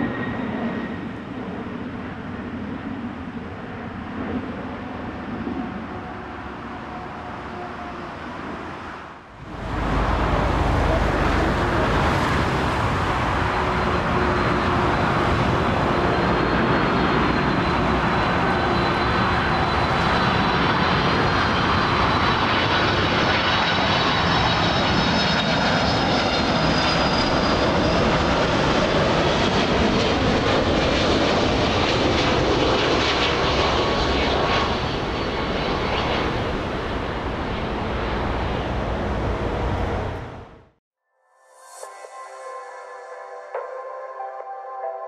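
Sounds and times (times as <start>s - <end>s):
jet engines roaring: 0.0s - 40.8s.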